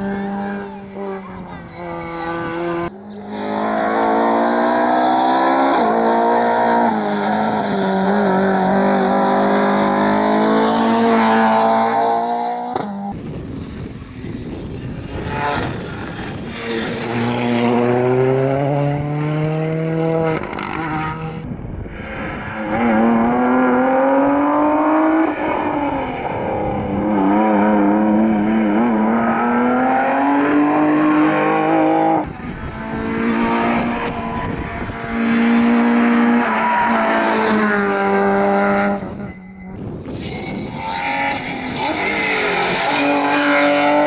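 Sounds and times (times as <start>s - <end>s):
rally car engine accelerating: 0.0s - 44.0s.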